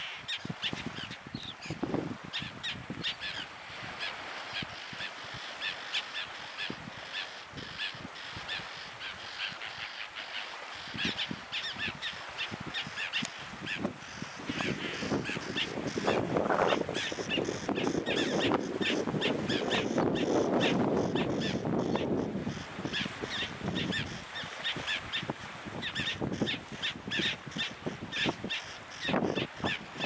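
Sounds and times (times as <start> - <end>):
birds calling: 0.0 - 30.0.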